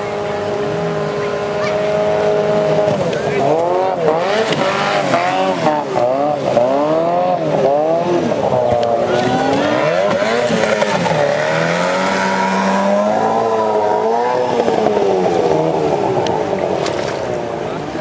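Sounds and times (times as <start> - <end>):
outboard motor revving: 0.0 - 18.0.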